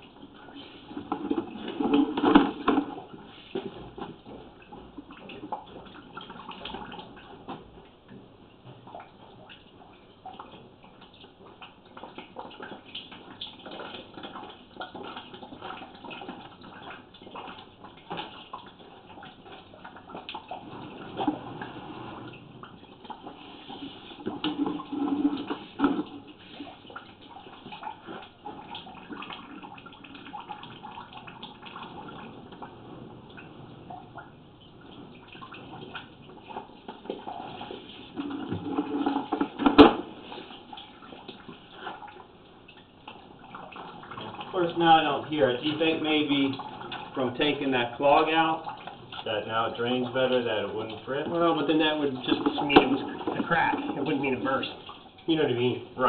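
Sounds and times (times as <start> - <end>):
small ticks and drips: 0.0 - 56.0
water splashing down drain pipe: 0.0 - 56.0.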